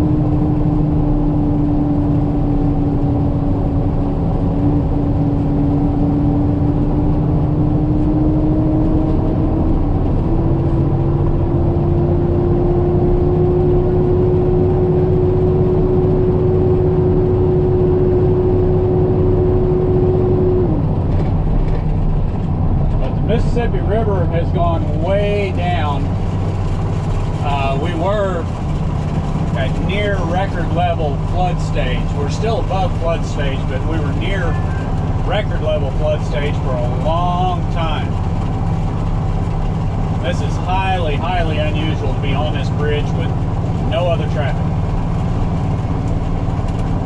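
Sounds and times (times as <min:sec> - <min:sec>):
diesel engine rumble: 0:00.0 - 0:47.0
engine whine: 0:00.0 - 0:47.0.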